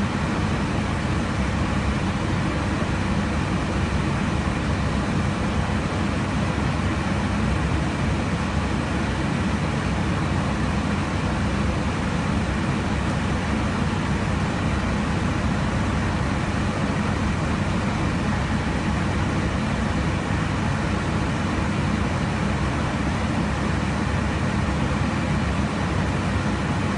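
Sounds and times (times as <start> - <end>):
airliner cabin noise: 0.0 - 26.9.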